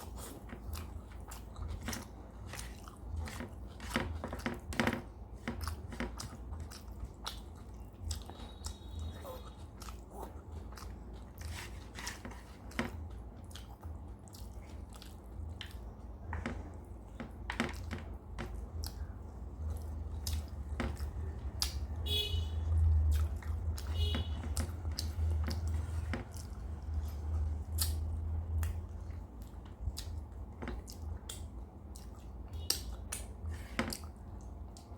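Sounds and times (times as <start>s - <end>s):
close chewing and mouth sounds: 0.0s - 34.9s.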